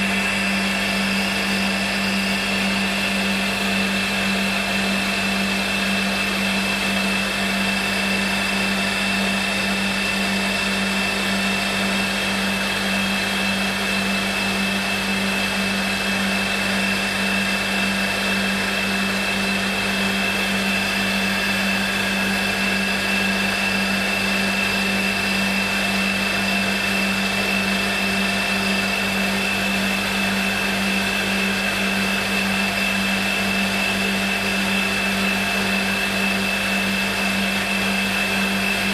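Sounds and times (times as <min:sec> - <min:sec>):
milling machine spindle whining: 0:00.0 - 0:38.9.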